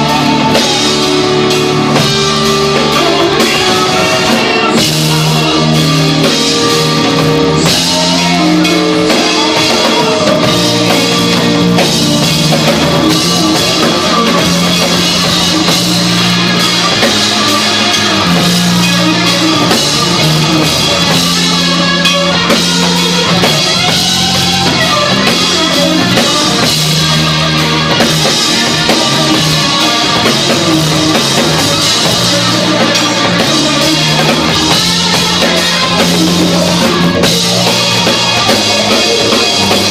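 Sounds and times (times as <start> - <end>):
bass guitar long low notes: 0.0 - 39.9
drum kit: 0.0 - 39.9
electric guitar: 0.0 - 39.9.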